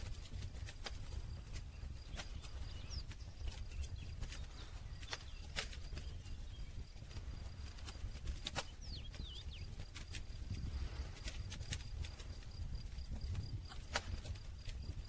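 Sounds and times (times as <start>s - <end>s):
campfire crackling and popping: 0.0s - 15.0s
low rumble of burning: 0.0s - 15.0s.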